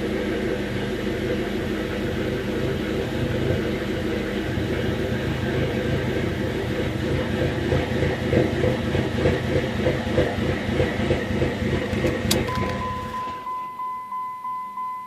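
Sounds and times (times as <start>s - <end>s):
car engine idling roughly: 0.0s - 13.4s.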